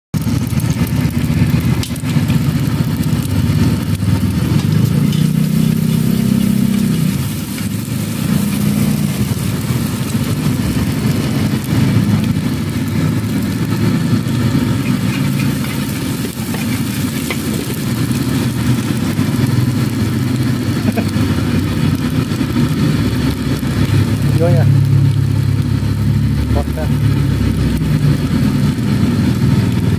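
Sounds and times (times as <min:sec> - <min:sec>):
engine humming: 0:00.2 - 0:29.9.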